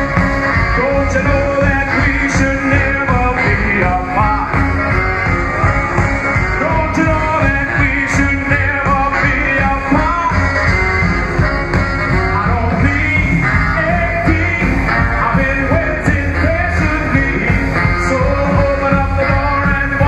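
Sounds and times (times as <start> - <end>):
live rock and roll band: 0.0 - 20.0
person singing: 0.0 - 20.0.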